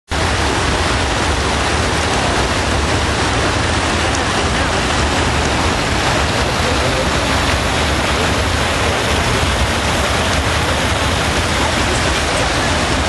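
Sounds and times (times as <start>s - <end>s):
water rushing through lock: 0.1s - 13.0s.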